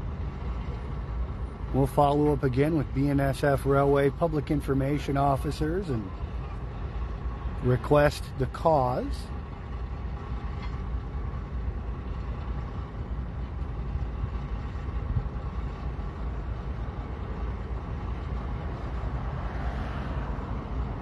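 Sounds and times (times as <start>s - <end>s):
diesel engines rumbling: 0.0s - 21.0s.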